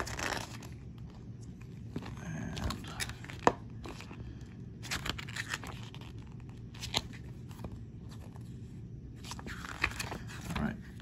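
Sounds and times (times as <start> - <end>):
paper pages turning: 0.0 - 4.1, 4.8 - 8.5, 9.2 - 11.0.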